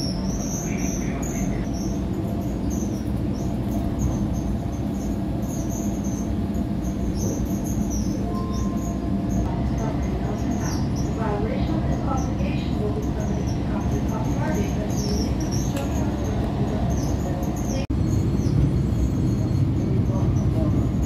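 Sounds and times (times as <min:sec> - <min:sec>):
faint hum: 0:00.0 - 0:21.0
train wheels rumbling on track: 0:00.0 - 0:21.0.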